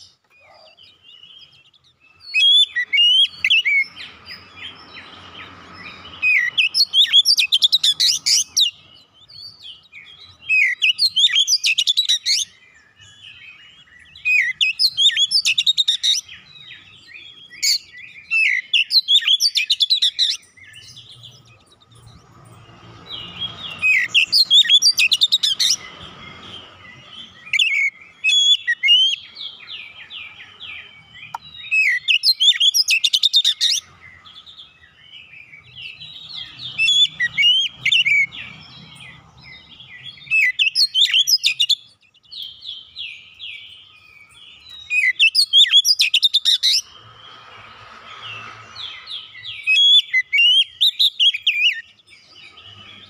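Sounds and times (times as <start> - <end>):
bird singing whistles and trills: 0.0 - 53.0.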